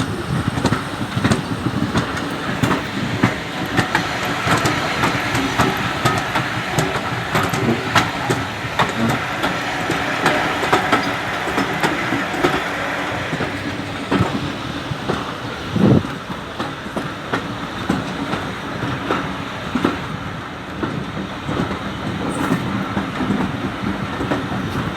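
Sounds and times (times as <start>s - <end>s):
train running noise: 0.0s - 24.9s
train wheels clicking on rail joints: 0.0s - 24.9s.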